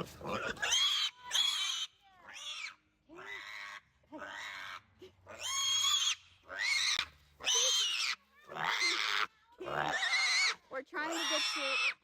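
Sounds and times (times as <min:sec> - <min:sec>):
young pigs squealing: 0:00.0 - 0:12.0.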